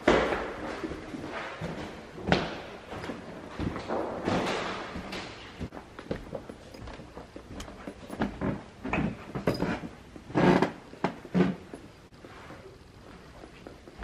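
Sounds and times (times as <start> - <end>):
footsteps in a house: 0.0 - 14.0.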